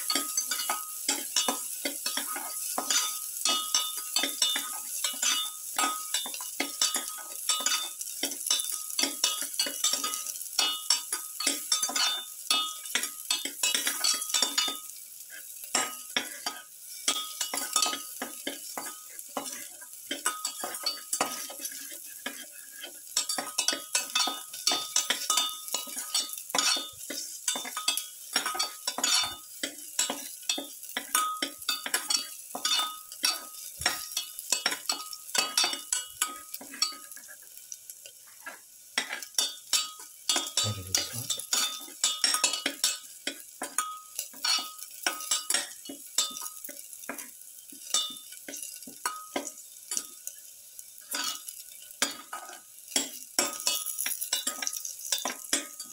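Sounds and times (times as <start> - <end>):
garlic sizzling in oil: 0.0 - 55.9
spatula scraping and tapping pan: 0.0 - 55.9.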